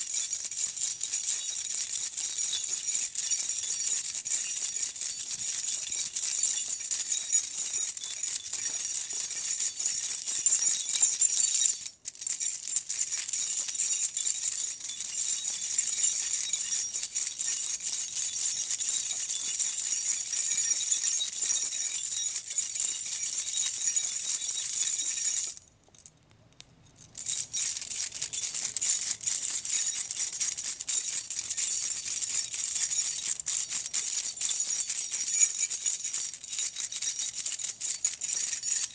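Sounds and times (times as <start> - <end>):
metal keys jangling: 0.0 - 38.9.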